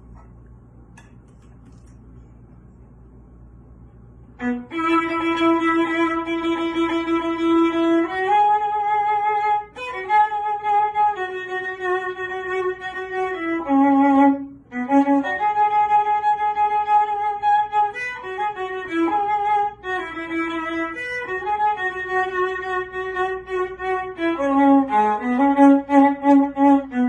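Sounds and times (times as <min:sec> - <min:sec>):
solo violin melody: 0:04.4 - 0:27.0.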